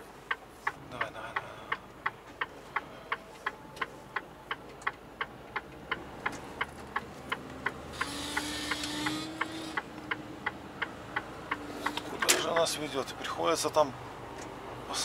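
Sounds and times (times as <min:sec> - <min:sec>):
turn signal ticking: 0:00.0 - 0:15.0.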